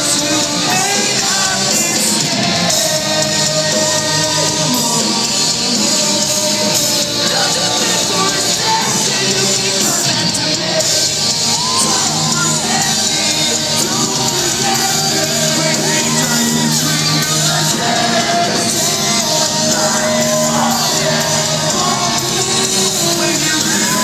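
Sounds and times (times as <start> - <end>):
drums: 0.0 - 24.0
electric guitars: 0.0 - 24.0
person singing and shouting: 0.0 - 24.0.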